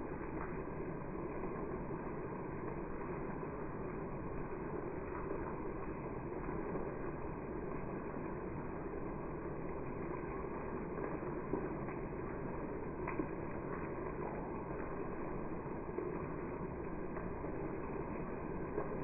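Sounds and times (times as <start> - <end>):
sharp raindrop ticks: 0.0 - 19.0
steady rain hiss: 0.0 - 19.0.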